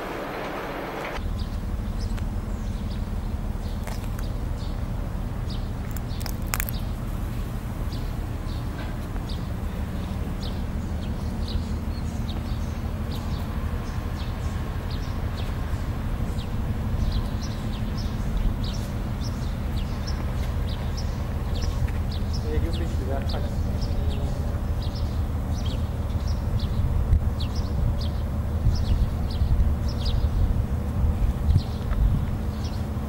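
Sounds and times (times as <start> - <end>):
birds chirping: 0.0 - 30.4, 31.5 - 33.0.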